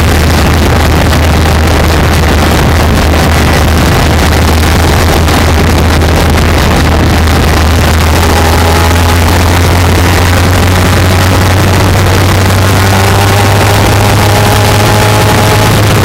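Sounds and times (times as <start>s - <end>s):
motorcycle exhaust drone: 0.0s - 16.0s.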